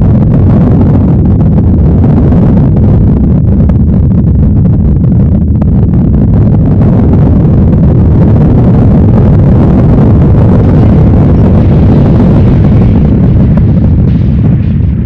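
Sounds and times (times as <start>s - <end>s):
deep earthquake rumble: 0.0s - 15.0s.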